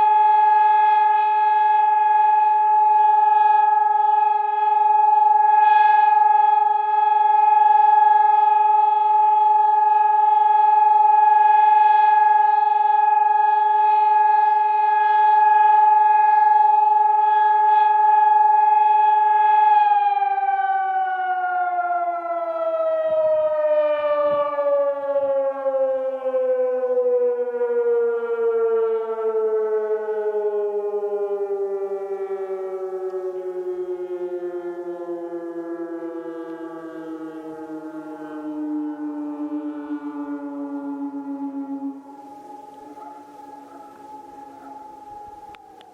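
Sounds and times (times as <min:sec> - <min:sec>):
civil defense siren: 0:00.0 - 0:45.9.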